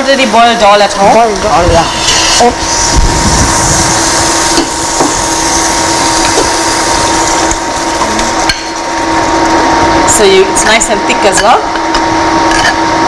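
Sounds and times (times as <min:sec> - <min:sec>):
electronic hum and hiss: 0:00.0 - 0:13.0.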